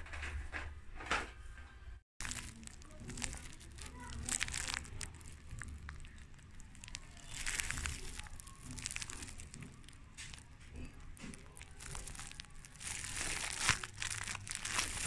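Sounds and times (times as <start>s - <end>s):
plastic film crinkling: 2.2s - 15.0s.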